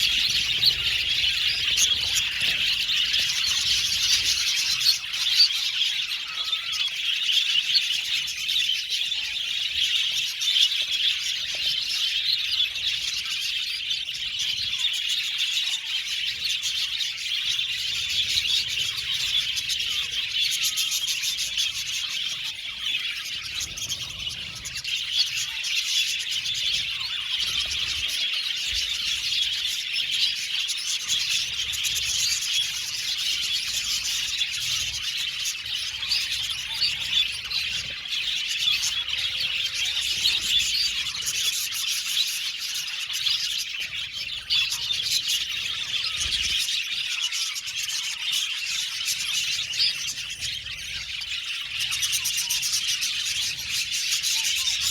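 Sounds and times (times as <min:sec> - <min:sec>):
budgerigars chirping and chattering: 0:00.0 - 0:54.9.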